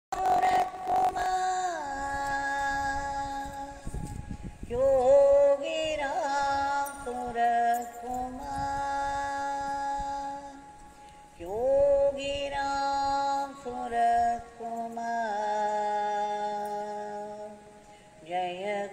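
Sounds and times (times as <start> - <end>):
devotional chant with music: 0.1 - 18.9.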